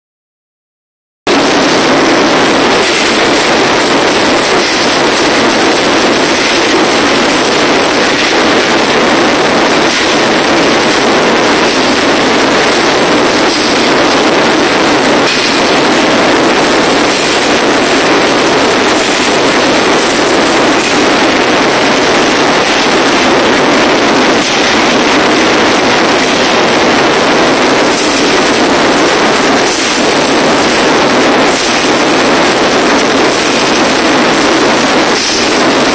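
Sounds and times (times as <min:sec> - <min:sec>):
loud distorted noise music: 0:01.3 - 0:35.9.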